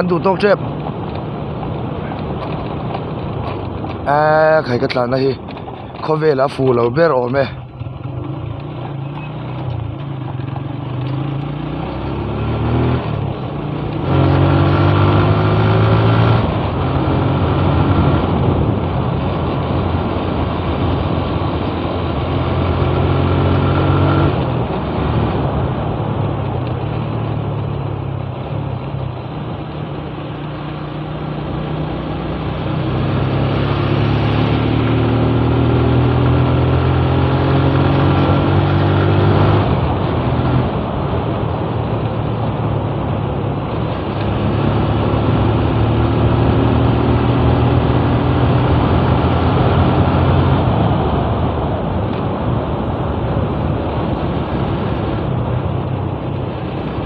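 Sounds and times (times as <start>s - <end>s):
road noise: 0.0s - 57.0s
motorcycle engine revving: 0.6s - 25.9s, 30.0s - 51.9s.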